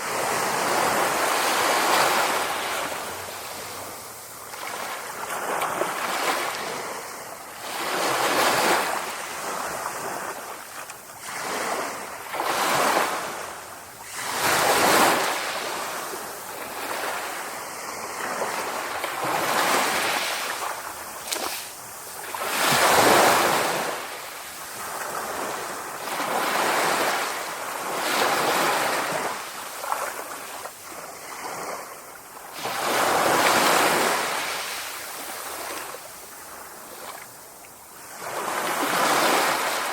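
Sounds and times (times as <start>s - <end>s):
sea waves breaking: 0.0s - 37.3s, 38.0s - 39.9s.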